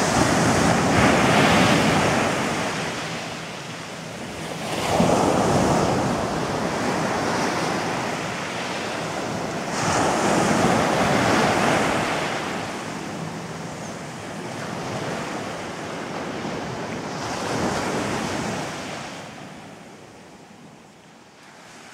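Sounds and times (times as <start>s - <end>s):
sea waves breaking on beach: 0.0s - 19.8s.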